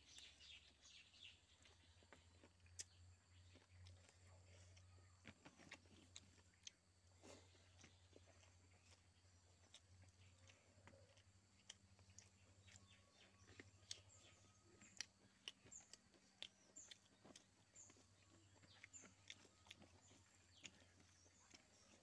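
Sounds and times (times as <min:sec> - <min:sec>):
person chewing food: 0:00.0 - 0:22.0
small bird chirping: 0:00.0 - 0:22.0.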